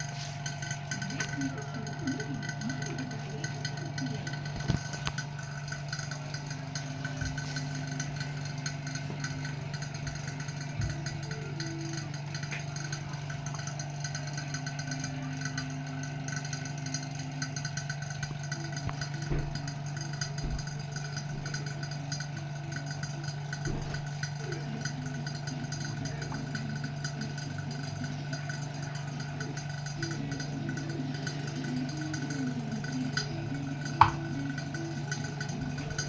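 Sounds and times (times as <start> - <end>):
refrigerator compressor humming: 0.0 - 36.0.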